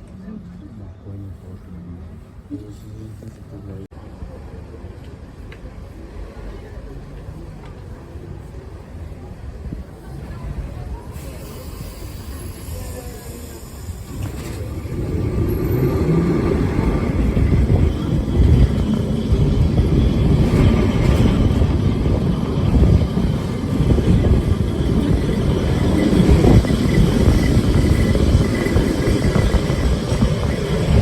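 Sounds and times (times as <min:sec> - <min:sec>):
tram rumbling along rails: 0:00.0 - 0:31.0.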